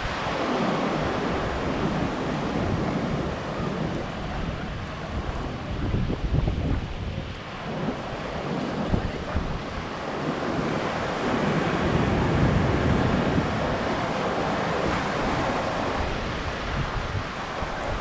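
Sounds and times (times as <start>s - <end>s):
surf breaking on beach: 0.0s - 18.0s
wind rumbling on microphone: 0.0s - 18.0s.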